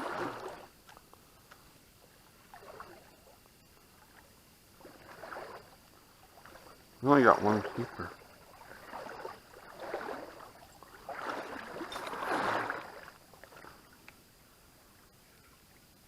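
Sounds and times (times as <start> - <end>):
creek water splashing: 0.0 - 1.1, 2.0 - 14.1
faint steady hiss: 0.0 - 16.0.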